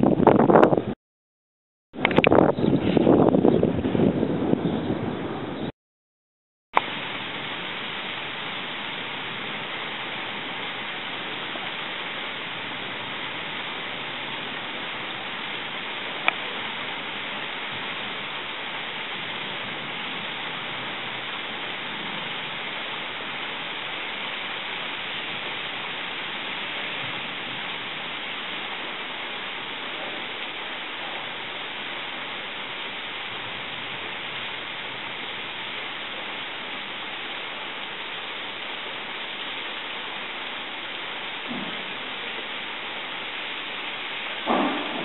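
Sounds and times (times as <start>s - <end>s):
steady rain falling: 6.8s - 45.0s.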